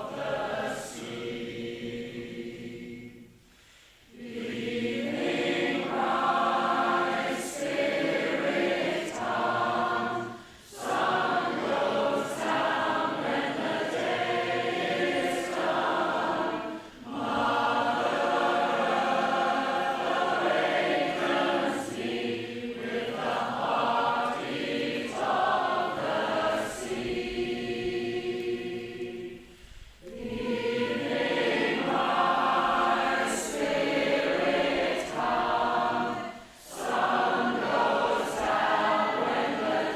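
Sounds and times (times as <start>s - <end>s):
women's choir singing a cappella: 0.0s - 39.9s.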